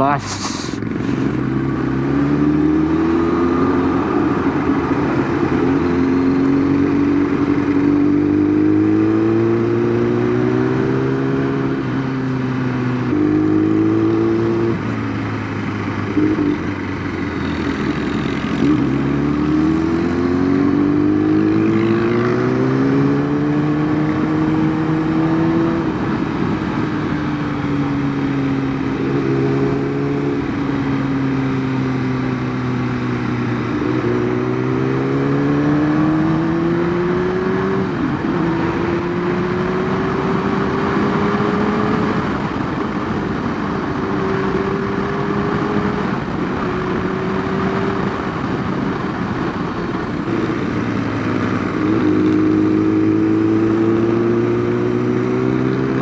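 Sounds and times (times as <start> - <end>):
motorcycle engine shifting gears: 0.3 - 56.0.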